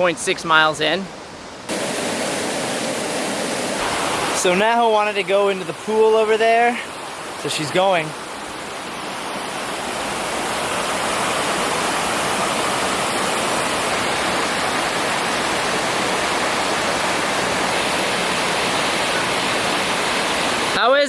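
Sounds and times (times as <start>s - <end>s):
waterfall pouring into pool: 1.7s - 8.1s, 8.8s - 21.0s.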